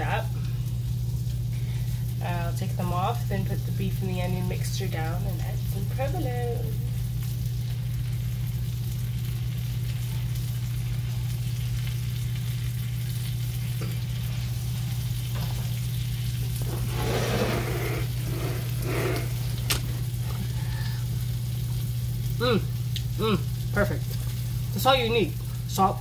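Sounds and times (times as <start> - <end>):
buns sizzling in a frying pan: 0.0 - 26.0
steady low hum: 0.0 - 26.0.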